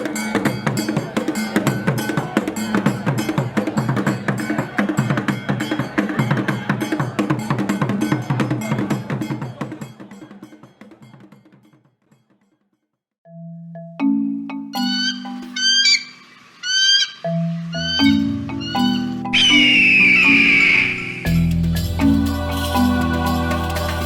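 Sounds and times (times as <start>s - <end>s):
music with driving percussion beat: 0.0s - 12.6s, 13.4s - 16.0s, 17.2s - 24.0s.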